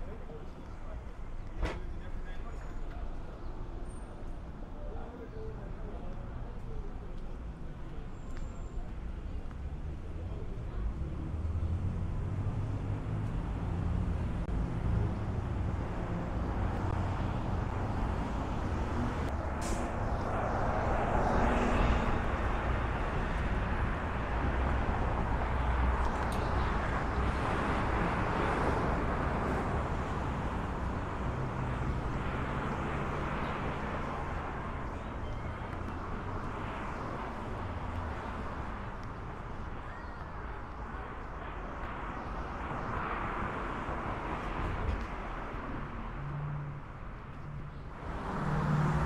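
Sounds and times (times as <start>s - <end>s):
traffic rumble: 0.0s - 49.0s.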